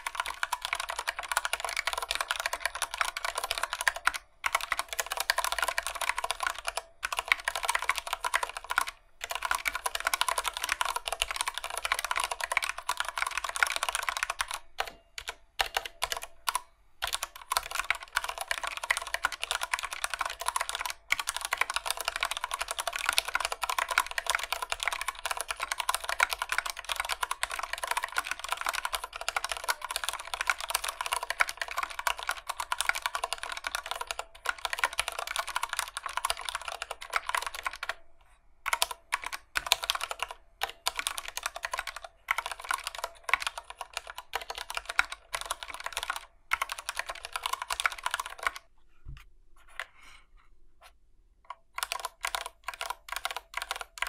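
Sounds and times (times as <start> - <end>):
mechanical keyboard typing: 0.0 - 38.0, 38.6 - 48.7, 51.5 - 54.0.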